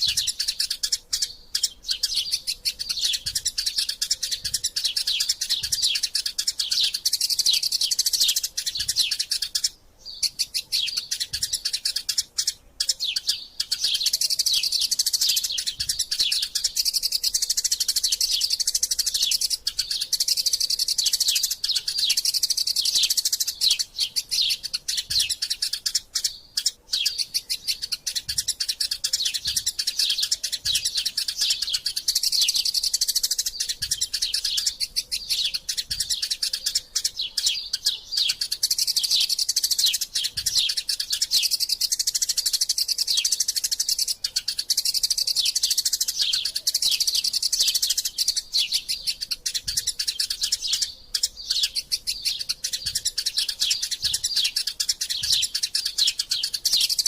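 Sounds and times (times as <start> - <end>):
sparrows chattering: 0.0 - 57.0.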